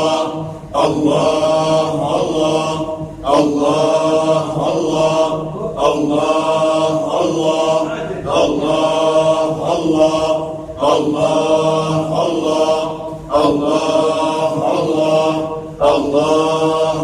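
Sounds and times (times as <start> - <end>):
group of voices chanting: 0.0 - 17.0.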